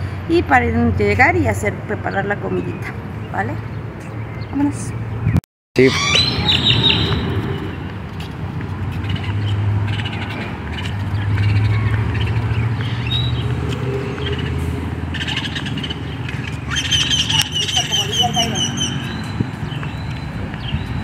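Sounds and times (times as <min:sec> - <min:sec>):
birds chirping: 0:00.8 - 0:21.0.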